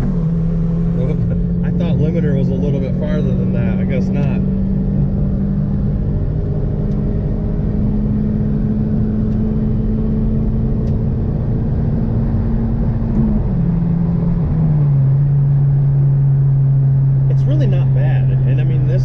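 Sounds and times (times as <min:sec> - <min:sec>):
car engine droning: 0:00.0 - 0:19.0
road rumble: 0:00.0 - 0:19.0.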